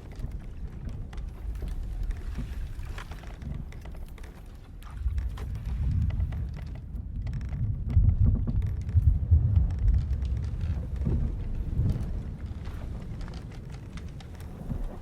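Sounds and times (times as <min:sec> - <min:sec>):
faint ticks and creaks: 0:00.0 - 0:15.0
wind and sea rumble around hull: 0:00.0 - 0:15.0.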